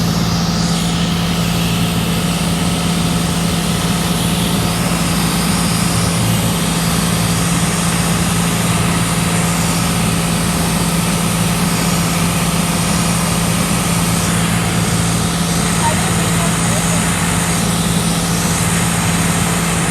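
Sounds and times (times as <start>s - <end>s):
propeller engine droning: 0.0s - 19.9s.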